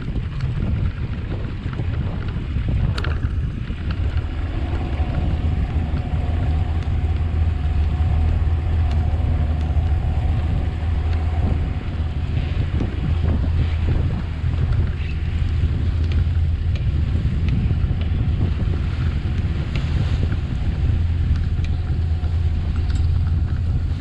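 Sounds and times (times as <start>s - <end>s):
boat engine running: 0.0s - 24.0s
wind buffeting microphone: 0.0s - 24.0s.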